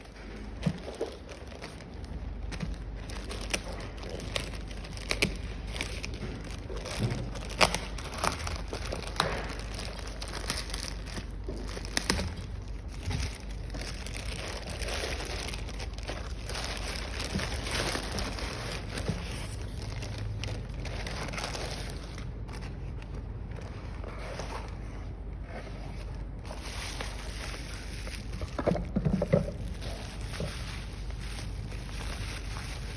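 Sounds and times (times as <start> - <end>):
low steady hum: 0.0 - 32.9
packaging crinkling and rustling: 0.0 - 32.9.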